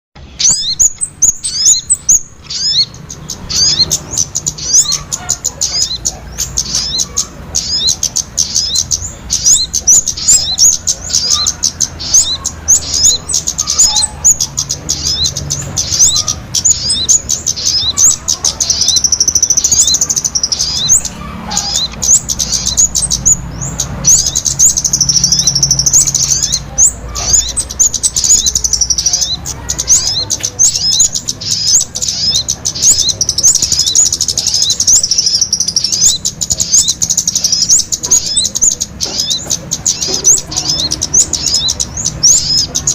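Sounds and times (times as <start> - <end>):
small songbirds chirping: 0.2 - 42.9.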